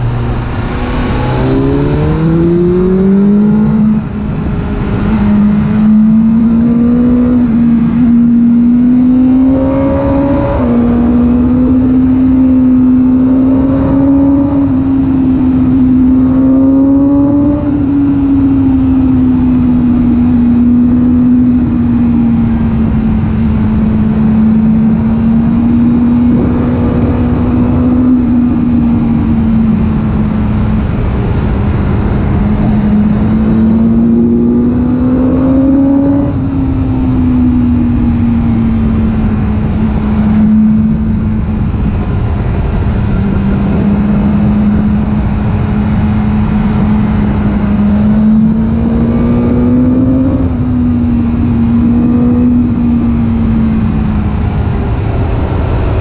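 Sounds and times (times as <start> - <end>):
motorcycle engine at speed: 0.0 - 56.0
wind and road noise: 0.0 - 56.0.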